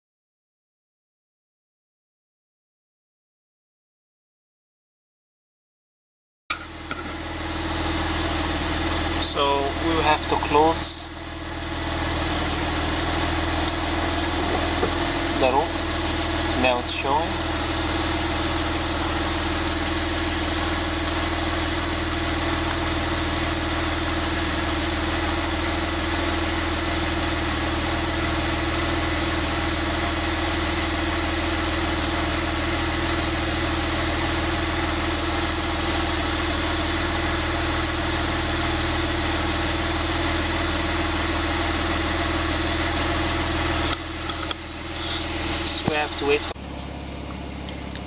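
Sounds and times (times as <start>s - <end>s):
car engine idling: 6.5s - 48.0s.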